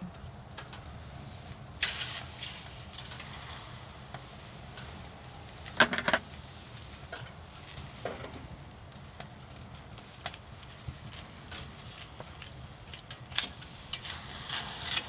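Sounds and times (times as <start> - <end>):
fish sizzling on grill: 1.7 - 15.0.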